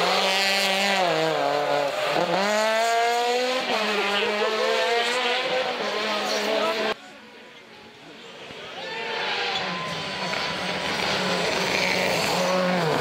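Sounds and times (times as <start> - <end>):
rally car engine revving: 0.0 - 7.0, 9.0 - 13.0.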